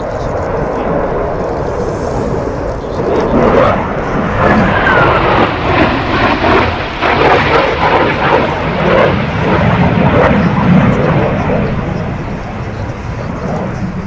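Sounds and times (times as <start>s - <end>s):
fighter jet roar: 0.0s - 14.0s.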